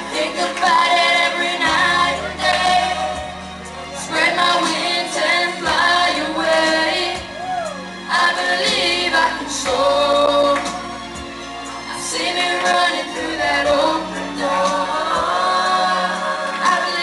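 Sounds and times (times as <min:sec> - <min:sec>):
recorded backing track: 0:00.0 - 0:17.0.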